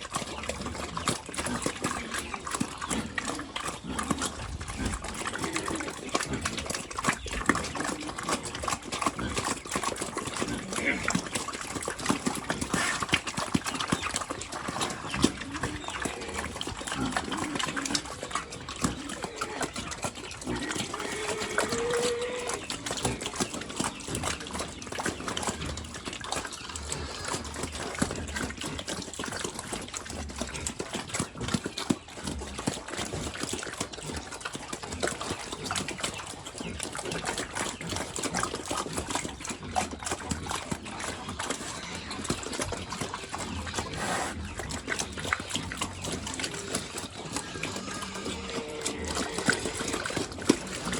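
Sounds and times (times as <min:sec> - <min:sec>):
pigs chomping and slurping: 0:00.0 - 0:50.9.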